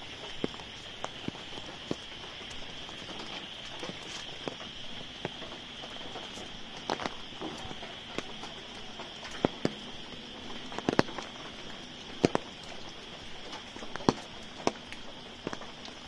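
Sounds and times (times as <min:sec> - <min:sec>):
footsteps on wet brick: 0:00.0 - 0:05.4, 0:06.0 - 0:16.0.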